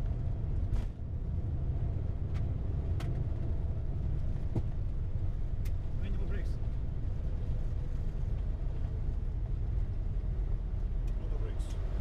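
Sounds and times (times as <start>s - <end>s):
airplane landing rumble: 0.0s - 12.0s.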